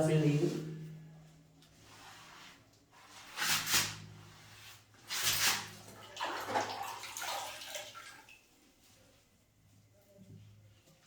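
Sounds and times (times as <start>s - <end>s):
wet rag wiping tiled floor: 0.0s - 11.0s.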